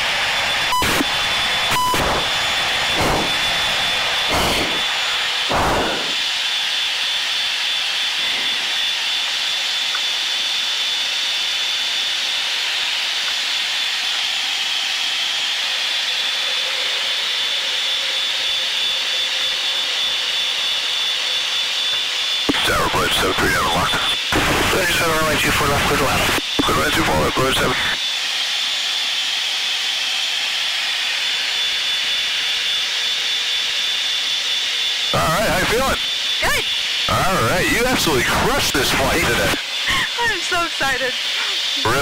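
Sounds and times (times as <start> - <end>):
jet engine and airflow roar: 0.0 - 42.0
steady high whine: 0.0 - 42.0.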